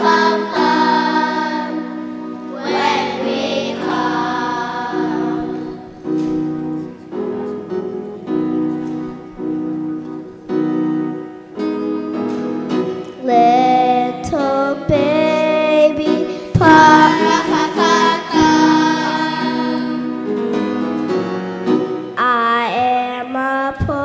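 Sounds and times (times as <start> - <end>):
keyboard playing sustained chords: 0.0 - 23.1.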